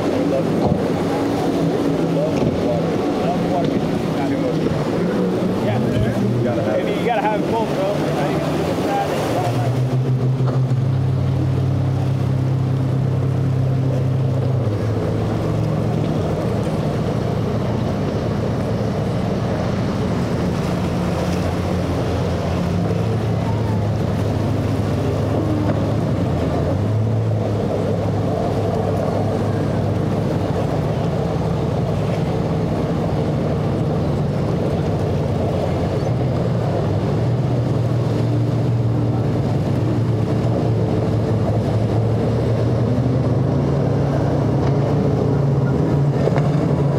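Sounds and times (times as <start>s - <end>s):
outboard engines droning: 0.0s - 46.9s
water rushing: 0.0s - 46.9s
wind: 0.0s - 46.9s.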